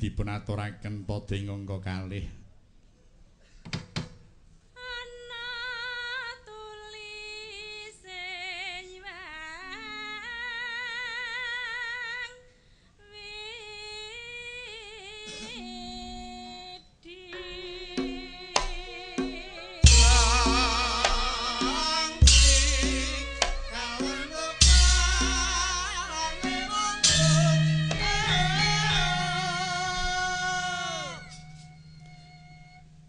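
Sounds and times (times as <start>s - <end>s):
woman singing with vibrato: 4.8s - 12.4s, 13.0s - 32.0s.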